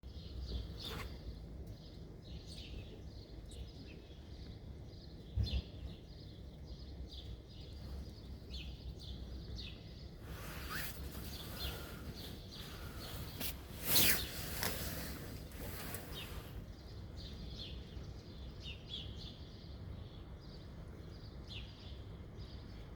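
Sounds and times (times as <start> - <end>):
low outdoor rumble: 0.0 - 22.9
small birds chirping: 0.0 - 22.9.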